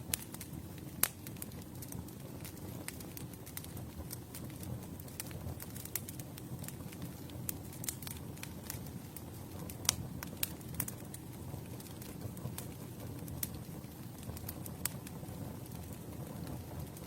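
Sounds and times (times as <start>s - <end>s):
campfire burning: 0.0s - 17.0s.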